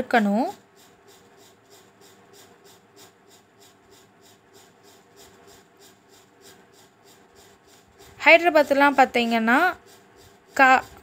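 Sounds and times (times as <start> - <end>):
spatula scraping a metal pan: 0.0 - 11.0.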